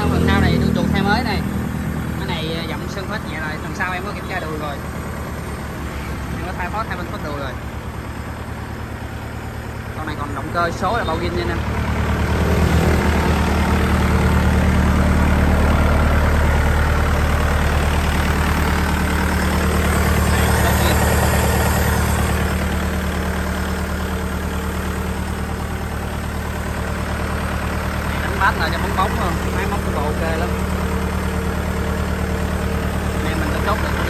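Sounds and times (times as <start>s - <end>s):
tractor diesel engine idling: 0.0s - 34.0s.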